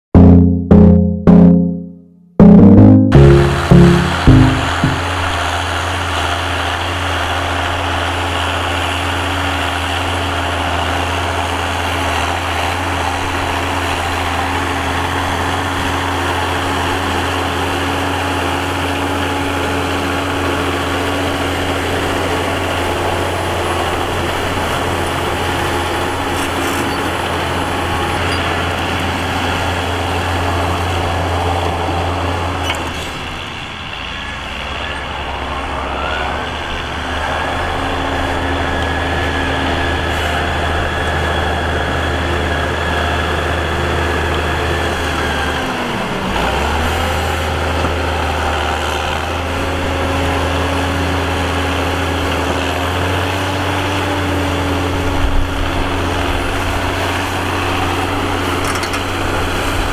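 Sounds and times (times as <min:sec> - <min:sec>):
tractor diesel engine droning: 0:02.4 - 0:59.9.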